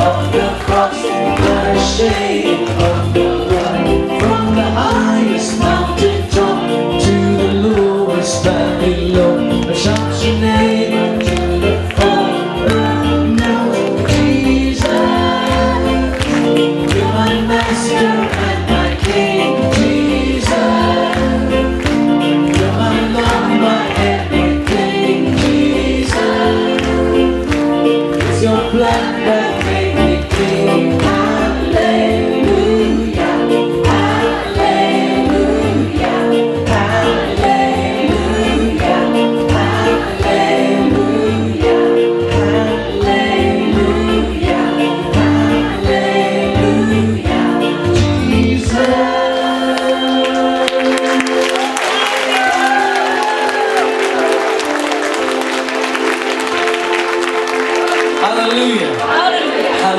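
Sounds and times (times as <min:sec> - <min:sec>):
music with steady beat: 0:00.0 - 0:51.7
voices singing together: 0:00.0 - 0:59.9.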